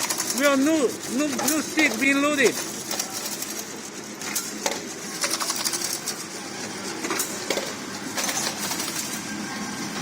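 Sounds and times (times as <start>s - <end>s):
packing machine humming and clattering: 0.0s - 10.0s.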